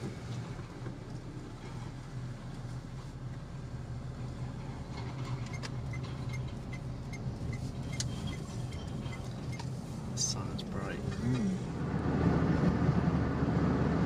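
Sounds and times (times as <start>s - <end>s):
engine and road hum: 0.0s - 14.0s.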